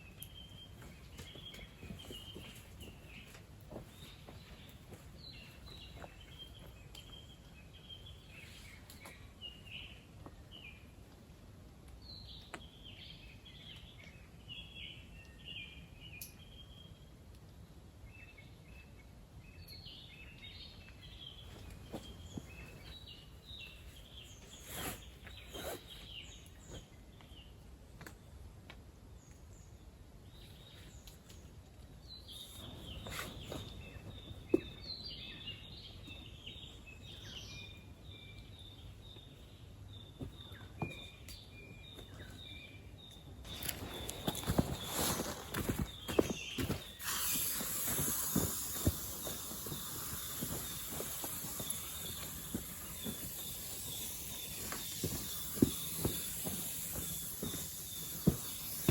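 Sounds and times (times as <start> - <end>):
birds chirping: 0.0 - 11.0, 18.2 - 27.7, 29.2 - 58.9
low outdoor hum: 0.0 - 58.9.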